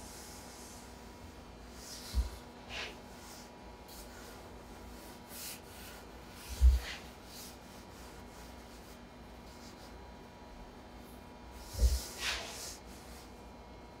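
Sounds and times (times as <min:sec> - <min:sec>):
hands rubbing dough on counter: 0:00.0 - 0:10.0, 0:11.5 - 0:13.4.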